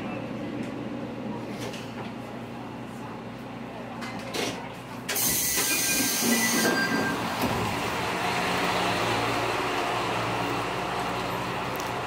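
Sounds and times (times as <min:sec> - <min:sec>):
diesel railcar engine running: 0:00.0 - 0:12.0
outside noise: 0:00.0 - 0:12.0.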